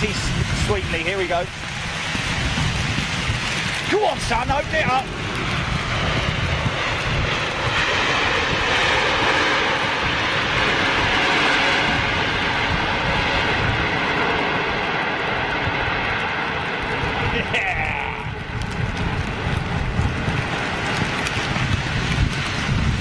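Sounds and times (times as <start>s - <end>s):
jet engines in reverse thrust: 0.0s - 23.0s.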